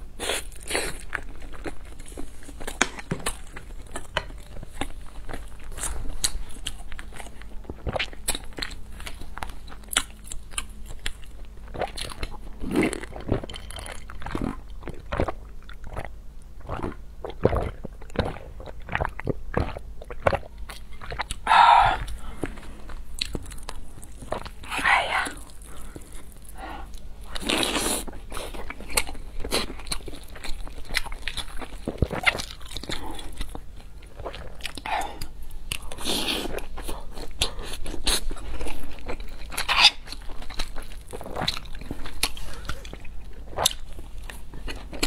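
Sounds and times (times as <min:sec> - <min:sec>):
woman chewing: 0:00.2 - 0:45.0.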